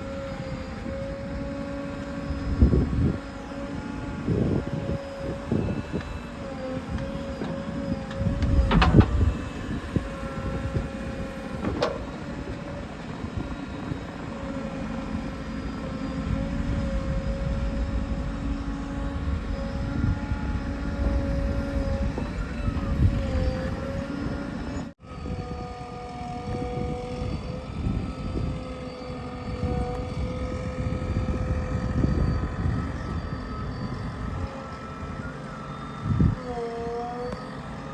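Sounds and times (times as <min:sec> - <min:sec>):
diesel engine working under load: 0:00.0 - 0:37.9.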